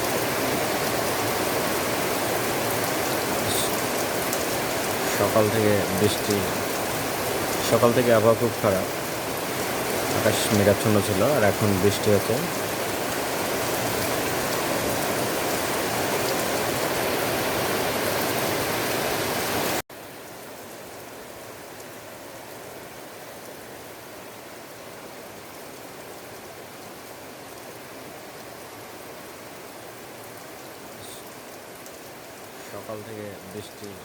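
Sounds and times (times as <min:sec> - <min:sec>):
steady rainfall: 0:00.0 - 0:34.0.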